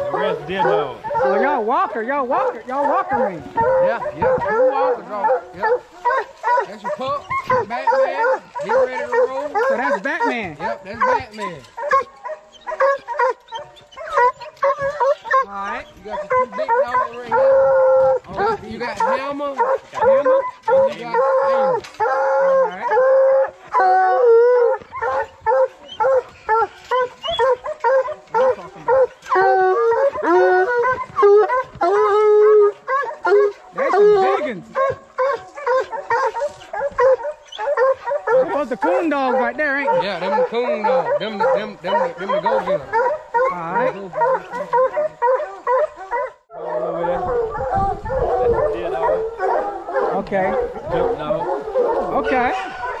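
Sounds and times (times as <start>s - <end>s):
hounds bawling: 0.0s - 53.0s
hounds chop barking: 0.0s - 53.0s.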